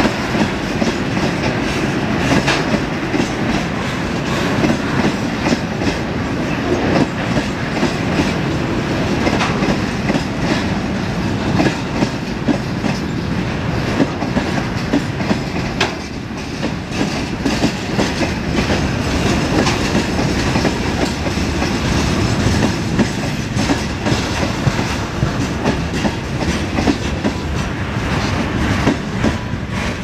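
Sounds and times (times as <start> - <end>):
freight train rumble: 0.0 - 30.0
wheels clacking over rail joints: 0.0 - 30.0.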